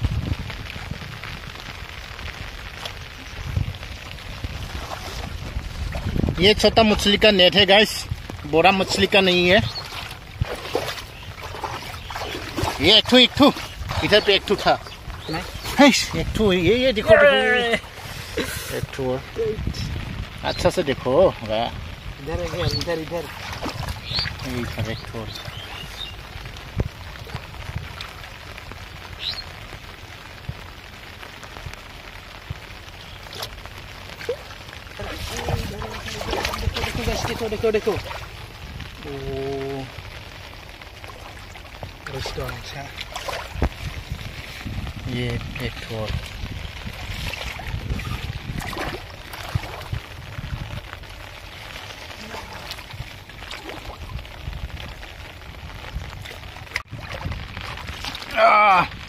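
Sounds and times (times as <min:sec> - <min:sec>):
rain on shallow water: 0:00.0 - 0:59.0
wind rumble on microphone: 0:00.0 - 0:59.0.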